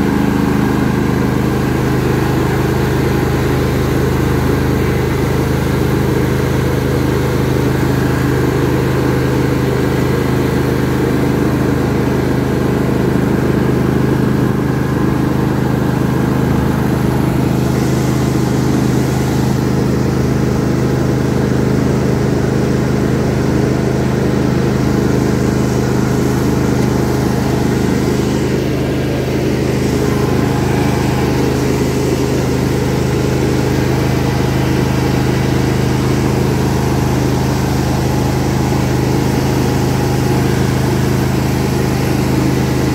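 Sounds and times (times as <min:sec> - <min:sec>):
riding lawn tractor engine running: 0:00.0 - 0:42.9.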